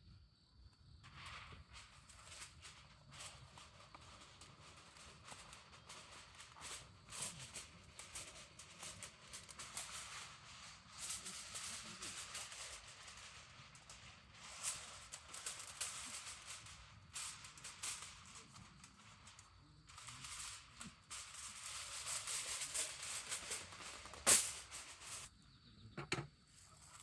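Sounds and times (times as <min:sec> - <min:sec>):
rustling and rattling: 0:01.1 - 0:25.3.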